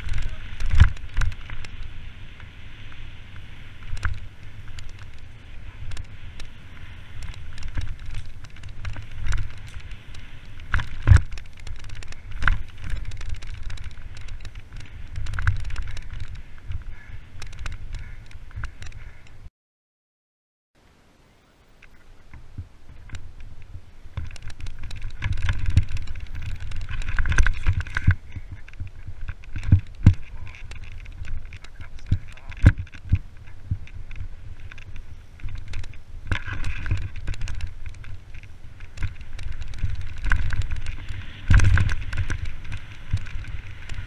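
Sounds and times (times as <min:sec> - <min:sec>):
tyres rumbling on dirt: 0:00.0 - 0:19.2, 0:21.8 - 0:44.0
bike rattling clicks: 0:00.0 - 0:19.4, 0:21.8 - 0:44.0.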